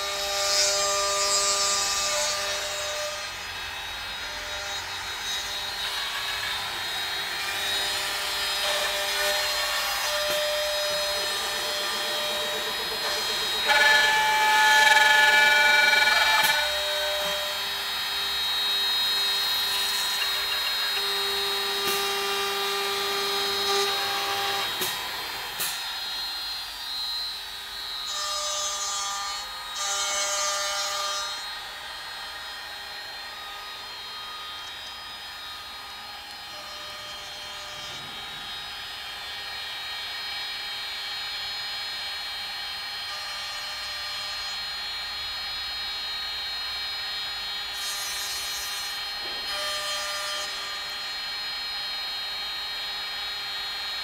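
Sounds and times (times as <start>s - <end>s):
drilling machine motors whining: 0.0s - 54.0s.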